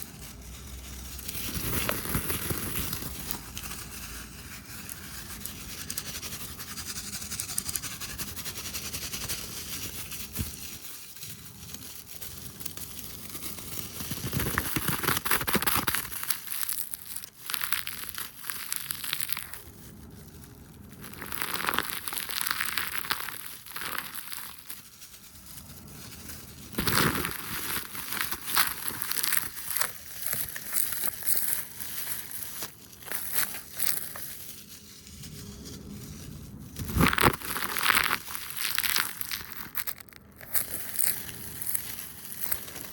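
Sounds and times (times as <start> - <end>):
crackly rustling hand sounds: 0.0 - 42.9.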